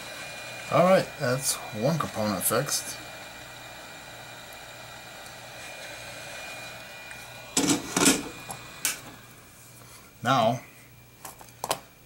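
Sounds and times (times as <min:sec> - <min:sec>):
heat gun blowing: 0:00.0 - 0:10.1.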